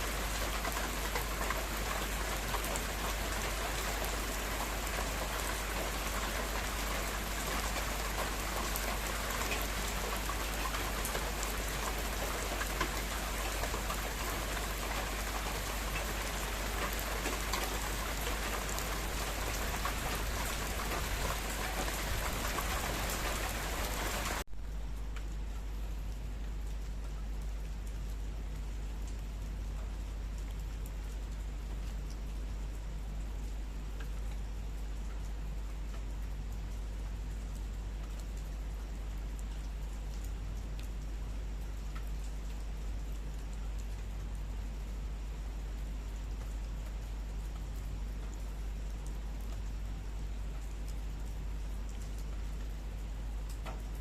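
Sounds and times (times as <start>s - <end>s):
heavy rain falling: 0.0s - 25.1s, 27.7s - 54.0s.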